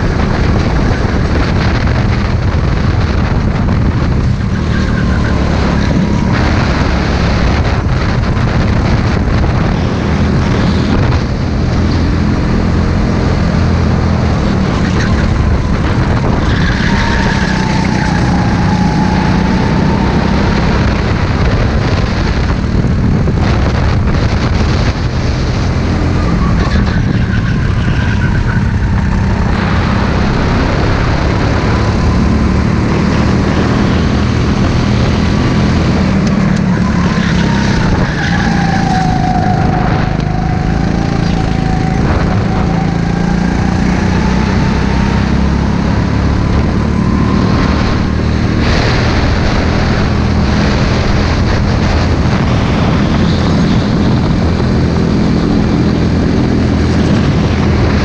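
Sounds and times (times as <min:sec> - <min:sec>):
go-kart engine racing: 0:00.0 - 0:58.0.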